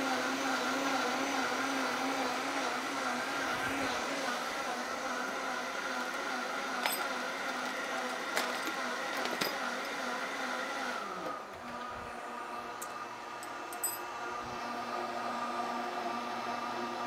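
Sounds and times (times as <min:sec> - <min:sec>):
blender motor whirring: 0:00.0 - 0:17.0.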